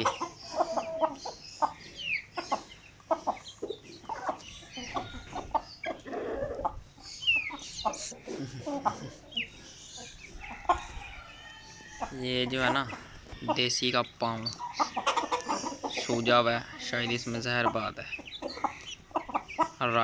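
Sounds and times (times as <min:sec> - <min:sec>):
chickens clucking: 0:00.0 - 0:20.0
chicks peeping: 0:00.0 - 0:20.0.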